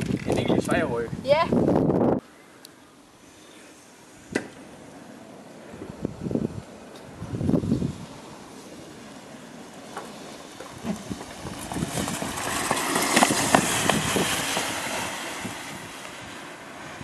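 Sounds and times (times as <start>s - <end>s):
ground fireworks hissing and crackling: 3.0s - 17.0s.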